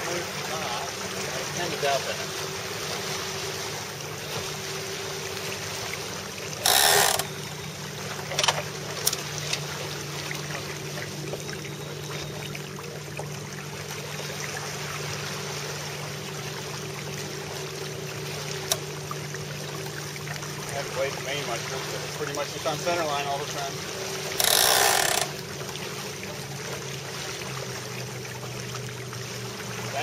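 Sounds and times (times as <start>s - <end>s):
water and wind rushing: 0.0s - 30.0s.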